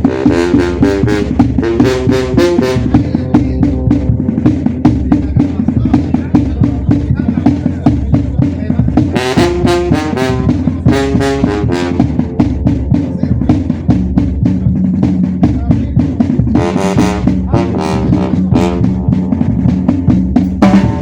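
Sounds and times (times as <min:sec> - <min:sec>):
trombones and trumpets: 0:00.0 - 0:07.5, 0:08.1 - 0:21.0
drum beat: 0:00.0 - 0:21.0
low bass line: 0:00.0 - 0:21.0.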